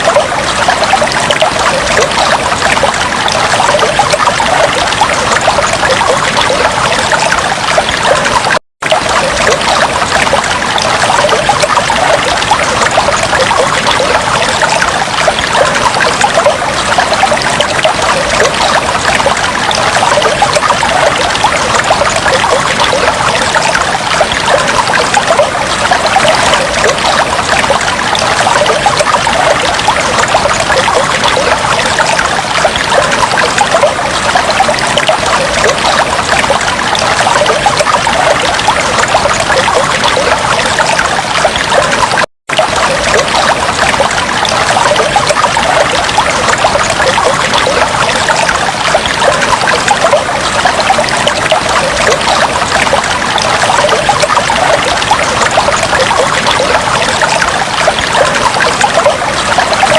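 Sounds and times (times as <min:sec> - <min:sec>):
fish tank water bubbling: 0:00.0 - 0:59.9.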